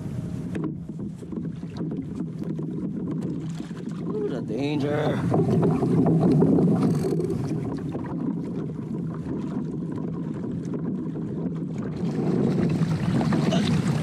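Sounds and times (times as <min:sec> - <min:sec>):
water sloshing against a hull: 0:00.0 - 0:14.0
wind rumbling on microphone: 0:00.0 - 0:14.0.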